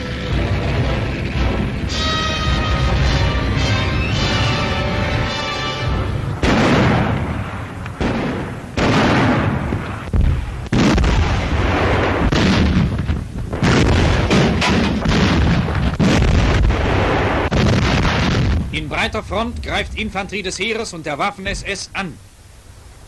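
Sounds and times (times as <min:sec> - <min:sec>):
artillery guns firing: 0:00.0 - 0:21.7.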